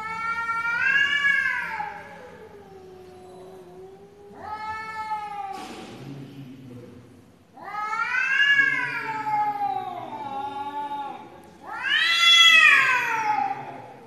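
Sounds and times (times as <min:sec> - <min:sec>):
cats yowling: 0:00.0 - 0:05.6, 0:07.6 - 0:14.0.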